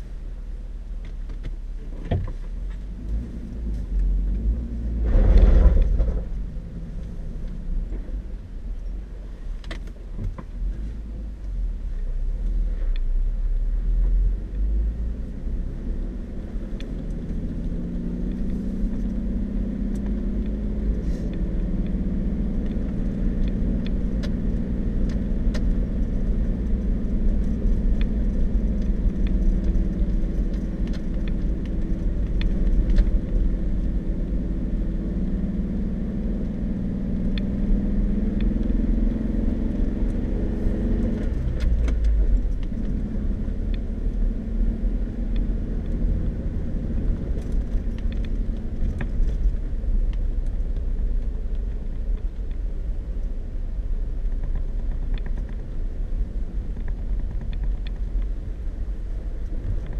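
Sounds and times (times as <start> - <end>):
vehicle engine hum: 0.0 - 59.9.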